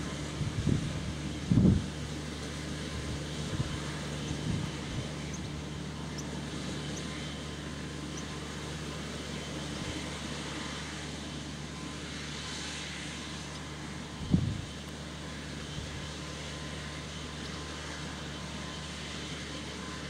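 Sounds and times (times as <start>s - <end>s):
tractor diesel engine drone: 0.0s - 20.0s.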